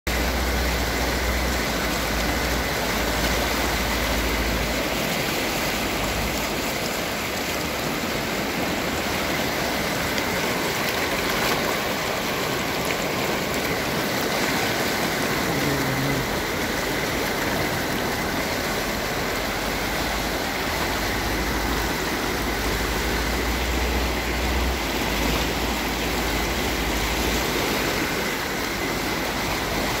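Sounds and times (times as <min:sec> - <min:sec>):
river rushing through rapids: 0:00.1 - 0:30.0.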